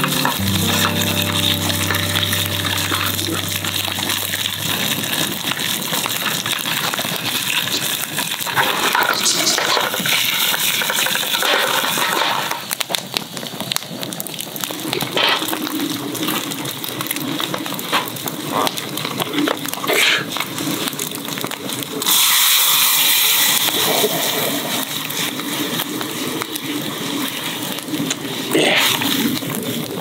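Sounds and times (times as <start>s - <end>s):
sausages sizzling in hot oil: 0.0s - 30.0s.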